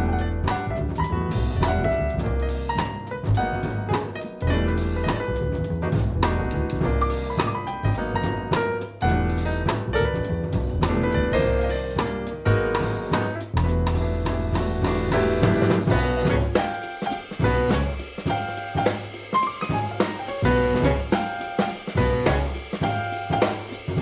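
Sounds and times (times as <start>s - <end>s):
jazz piano trio: 0.0s - 24.0s.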